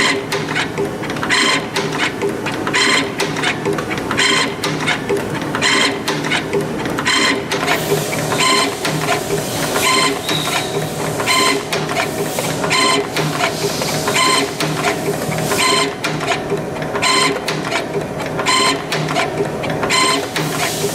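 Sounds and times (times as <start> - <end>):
machine whirring: 0.0 - 20.9.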